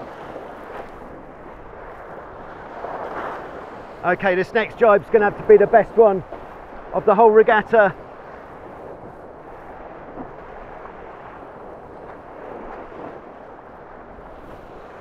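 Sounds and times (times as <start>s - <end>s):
water rushing along hulls: 0.0s - 15.0s
wind: 0.0s - 15.0s.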